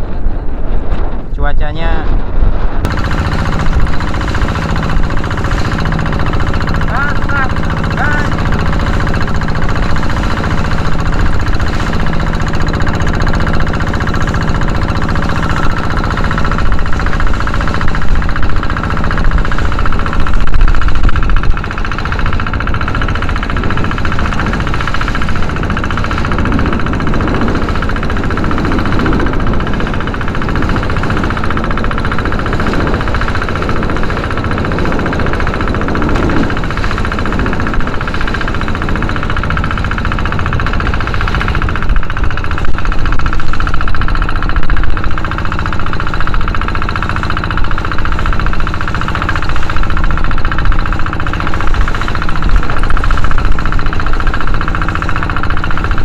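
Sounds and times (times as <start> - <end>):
boat engine running: 0.0 - 56.0
wind: 0.0 - 56.0.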